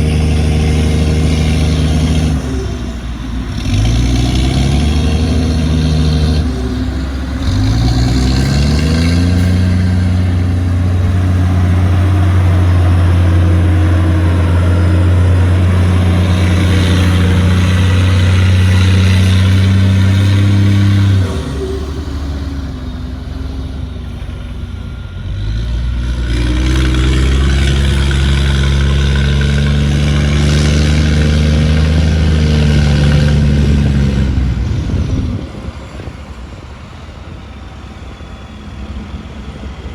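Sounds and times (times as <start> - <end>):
heavy diesel engine revving: 0.0 - 39.9.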